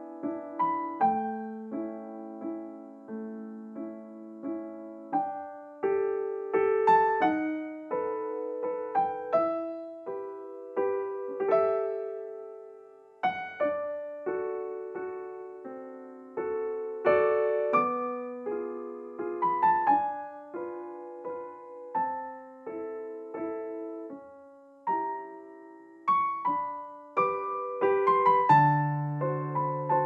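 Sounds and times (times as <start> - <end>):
slow gentle piano piece: 0.0 - 30.0.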